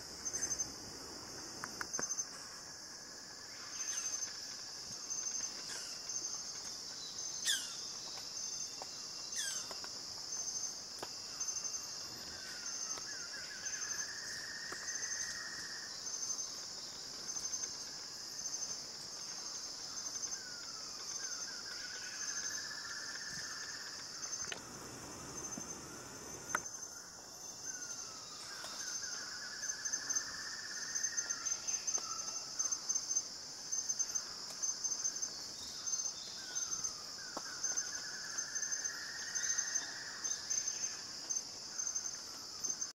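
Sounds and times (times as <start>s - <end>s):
high-pitched insect chorus: 0.0s - 43.0s
low buzzy insect trill: 0.0s - 43.0s.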